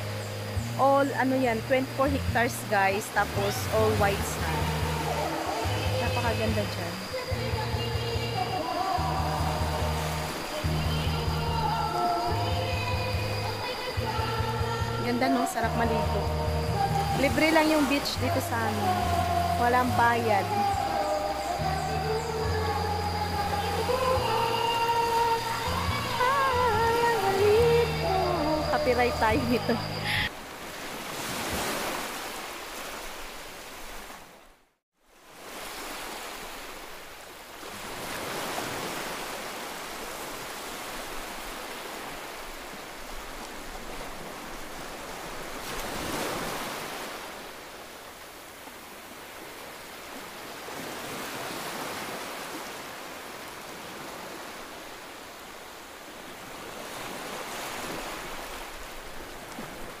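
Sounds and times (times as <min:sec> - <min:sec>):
waves washing onto beach: 0:00.0 - 0:12.9, 0:15.0 - 0:21.6, 0:23.3 - 0:34.4, 0:35.0 - 1:00.0.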